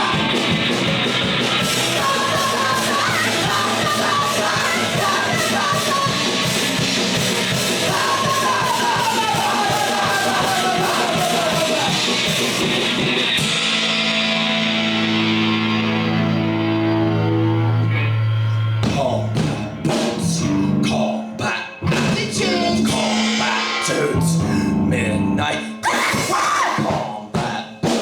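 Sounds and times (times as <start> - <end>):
live rock band playing: 0.0 - 21.0, 21.8 - 26.9.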